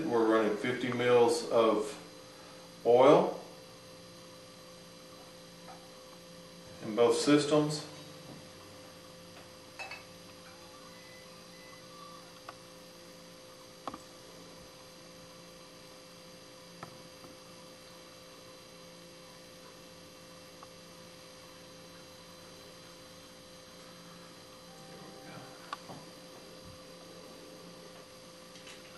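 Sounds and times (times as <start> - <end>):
electrical mains hum: 0.0 - 28.9.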